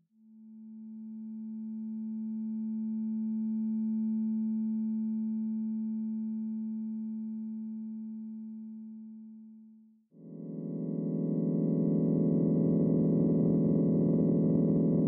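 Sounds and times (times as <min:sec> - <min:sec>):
synthesized sine-tone drone: 0:00.2 - 0:09.4, 0:10.2 - 0:15.0.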